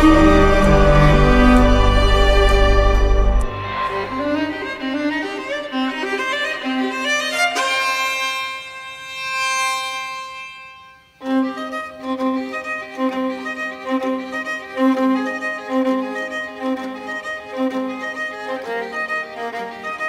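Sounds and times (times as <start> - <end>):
bowed string music: 0.0 - 20.0.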